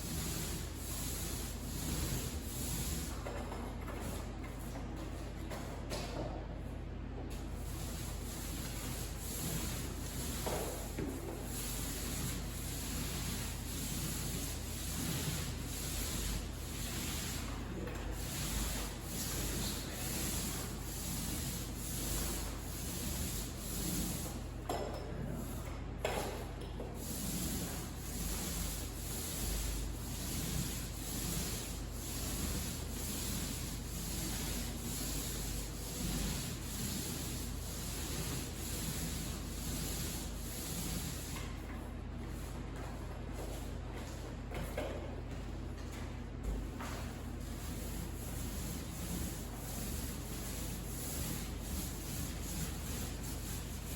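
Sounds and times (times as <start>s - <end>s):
compound spread on drywall: 0.0s - 53.9s.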